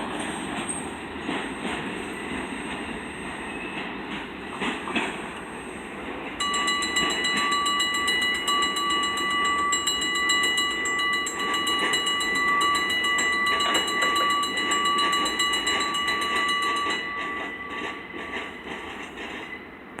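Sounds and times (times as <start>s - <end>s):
train cars rolling rumble: 0.0s - 20.0s
train wheel squeal: 0.0s - 20.0s.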